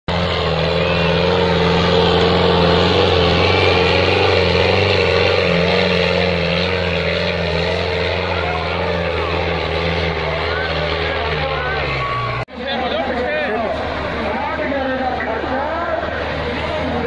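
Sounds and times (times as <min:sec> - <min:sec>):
tractor diesel engine running hard: 0:00.1 - 0:17.0.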